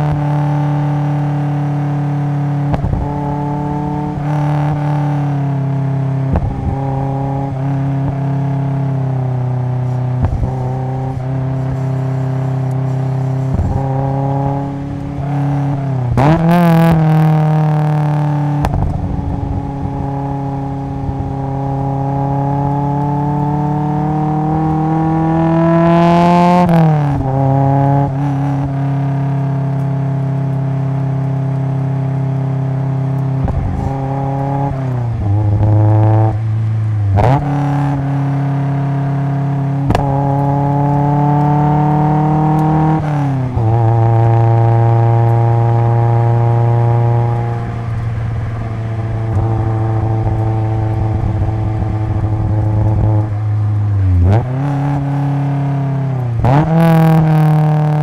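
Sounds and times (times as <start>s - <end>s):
car exhaust while driving: 0.0s - 58.0s.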